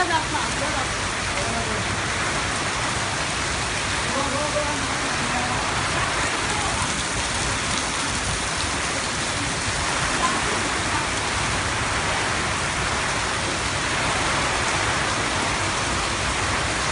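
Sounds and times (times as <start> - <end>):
heavy rain drumming: 0.0 - 16.9.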